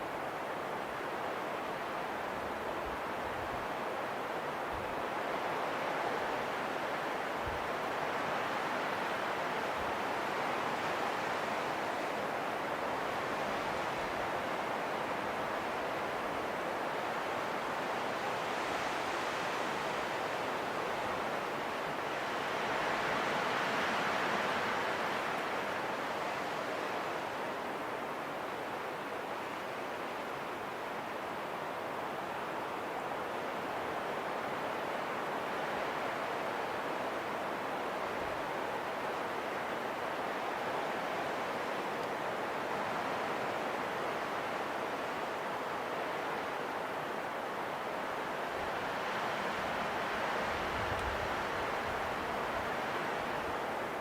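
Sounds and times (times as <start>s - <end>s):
rushing wind: 0.0s - 54.0s.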